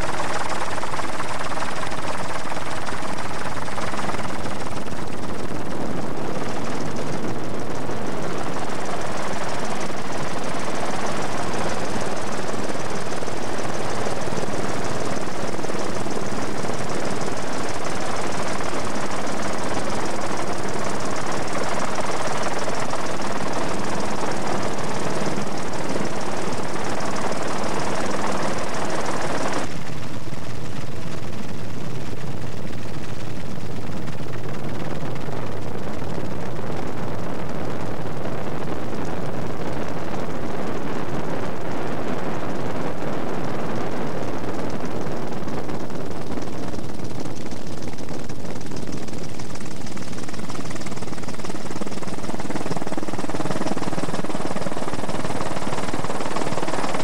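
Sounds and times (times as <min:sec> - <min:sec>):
faint steady hum: 0:00.0 - 0:57.0
helicopter engine and rotor: 0:00.0 - 0:57.0.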